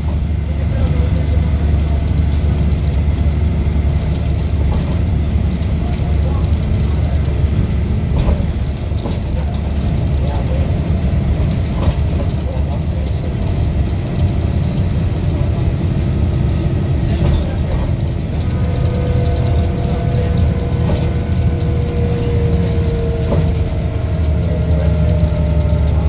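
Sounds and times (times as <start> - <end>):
bus drivetrain rumble: 0.0 - 26.0.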